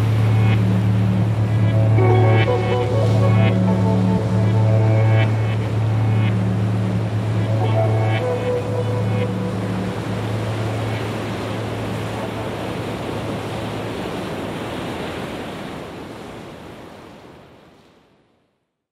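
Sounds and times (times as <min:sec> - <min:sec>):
steady rushing noise: 0:00.0 - 0:15.2.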